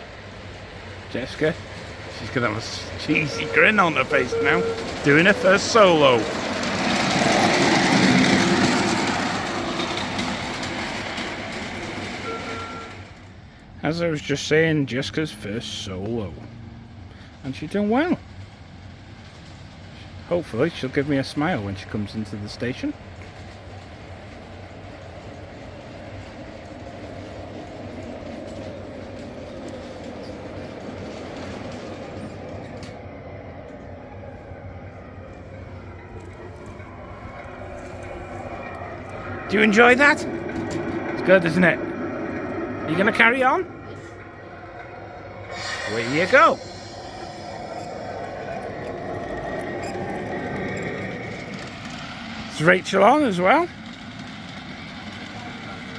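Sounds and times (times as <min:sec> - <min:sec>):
miniature train running on track: 0:00.0 - 0:55.9
wheels rumbling on rail: 0:00.0 - 0:55.9.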